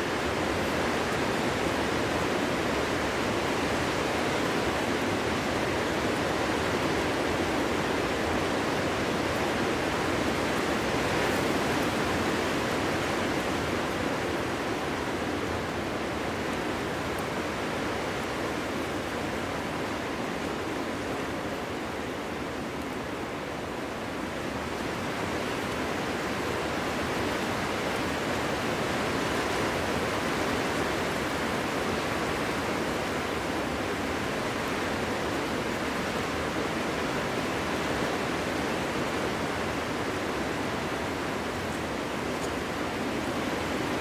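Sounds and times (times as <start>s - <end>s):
wind blowing through forest: 0.0s - 44.0s.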